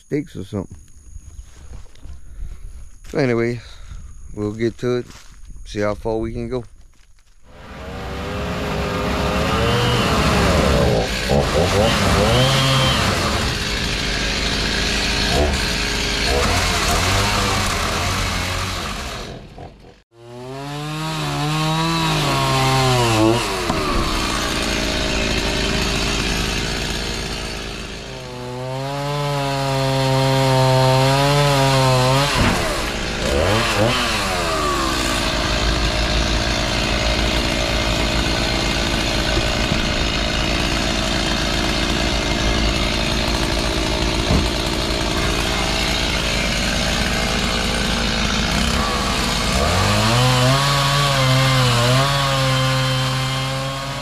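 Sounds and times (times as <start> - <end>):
chainsaw cutting wood: 7.5 - 54.0.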